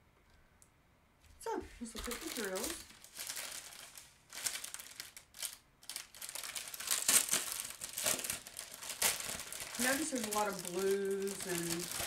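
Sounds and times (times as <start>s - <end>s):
plastic bags crinkling: 1.8s - 12.0s.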